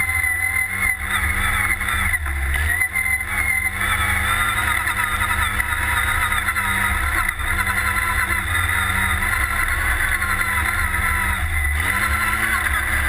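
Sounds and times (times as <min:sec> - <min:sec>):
buggy engine running: 0:00.0 - 0:13.0.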